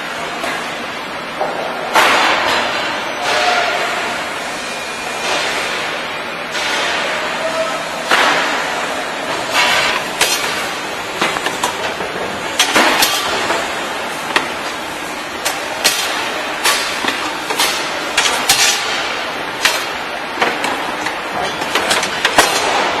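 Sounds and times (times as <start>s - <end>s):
factory machinery running: 0.0s - 23.0s.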